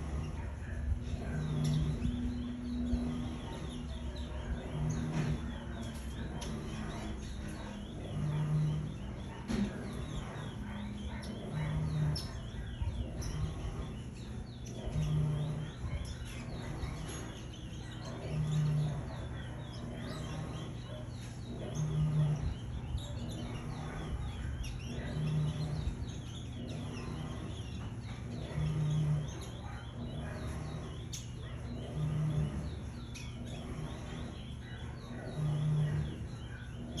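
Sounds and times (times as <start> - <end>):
finches chirping: 0.0 - 37.0
low pulsing hum: 0.0 - 37.0.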